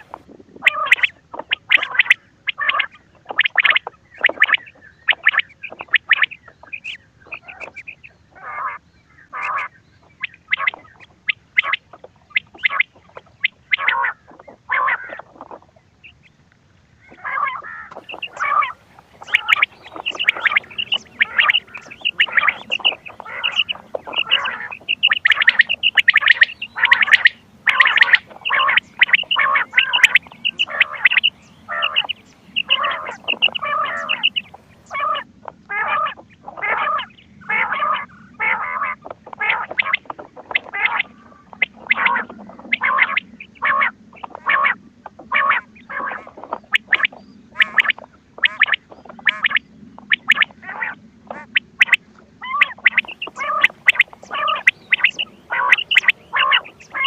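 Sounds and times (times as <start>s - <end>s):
quail hunting call notes: 0.0s - 16.2s, 17.1s - 57.0s.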